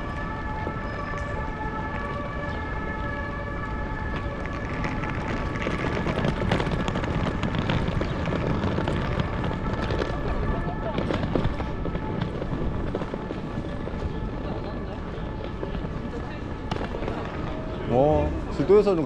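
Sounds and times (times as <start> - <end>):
city street noise: 0.0 - 19.0
traffic noise: 0.0 - 19.0.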